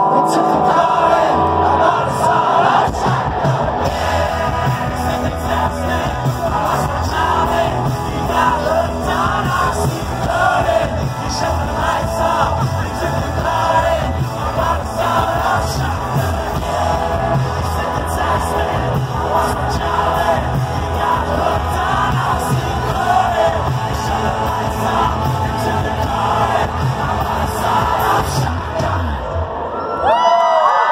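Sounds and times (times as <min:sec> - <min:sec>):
man singing: 0:00.0 - 0:03.2, 0:03.8 - 0:29.4
rock band playing live: 0:00.0 - 0:29.6
crowd voices: 0:00.0 - 0:30.9.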